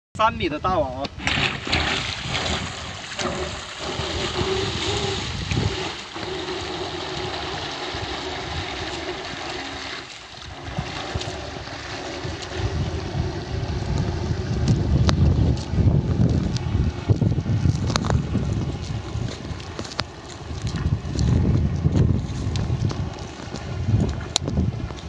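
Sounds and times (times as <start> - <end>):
wind buffeting microphone: 1.0 - 25.0
faint motor hum: 2.8 - 25.0.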